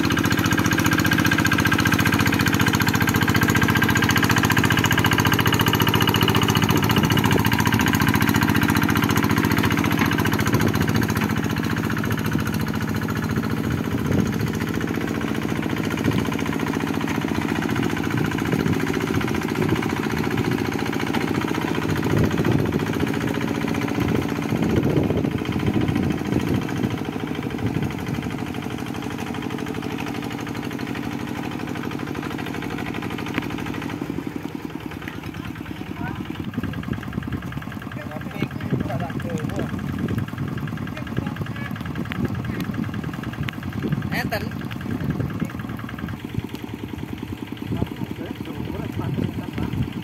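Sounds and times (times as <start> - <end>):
diesel engine running under load: 0.0 - 50.0.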